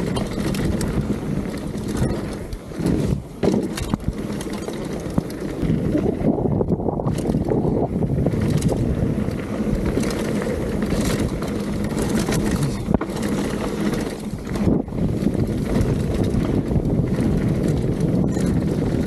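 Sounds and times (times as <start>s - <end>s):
bike clicks and rattles: 0.0s - 19.0s
tyres rumbling on dirt trail: 0.0s - 19.0s
wind buffeting microphone: 0.0s - 19.0s.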